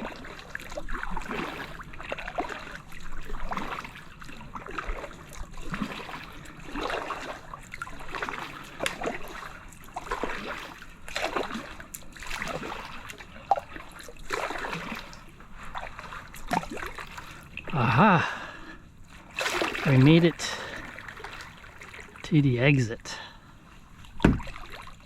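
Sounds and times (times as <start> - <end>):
kayak paddle splashing: 0.0 - 25.0.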